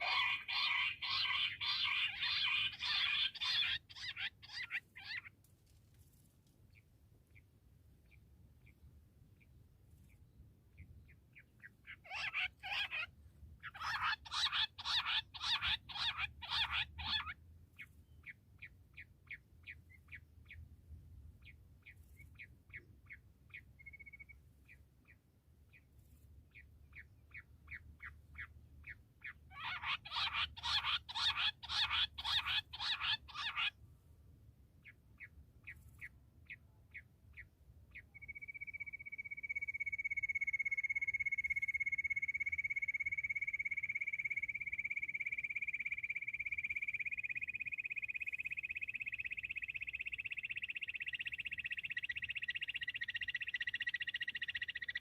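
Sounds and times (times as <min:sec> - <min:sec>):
quail repeated calling notes: 0:00.0 - 0:05.4, 0:10.8 - 0:20.6, 0:21.4 - 0:25.8, 0:26.5 - 0:33.8, 0:34.8 - 0:55.0.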